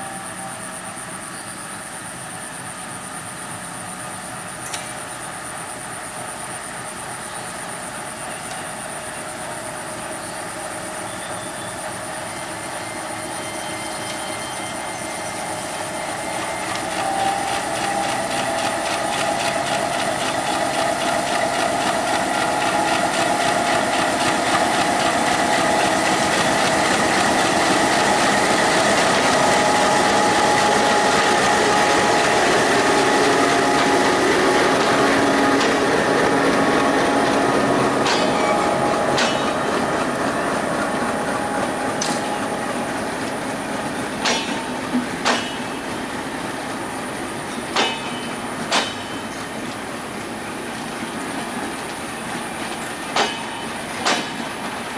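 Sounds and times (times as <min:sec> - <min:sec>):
train wheels clattering on rails: 0:04.6 - 0:05.3, 0:06.4 - 0:54.9.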